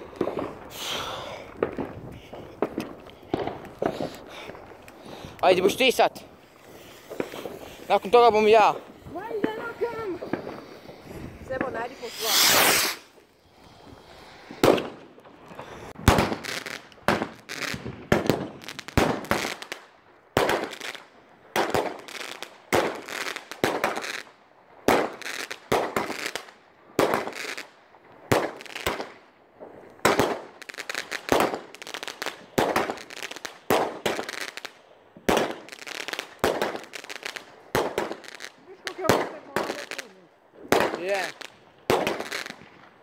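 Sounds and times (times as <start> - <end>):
fireworks bangs with echo: 0.0 - 13.2, 14.4 - 27.7, 28.3 - 43.0.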